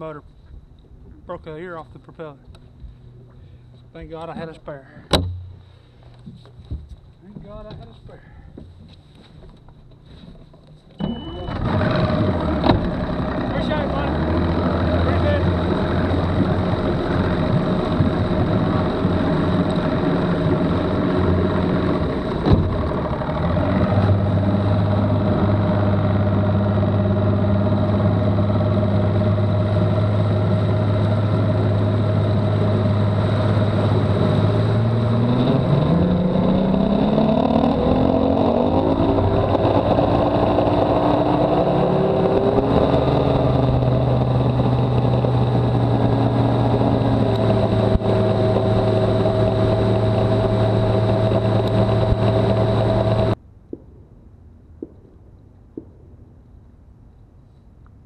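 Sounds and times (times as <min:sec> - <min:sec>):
outboard motor running: 0:02.8 - 0:09.6, 0:11.0 - 0:53.4.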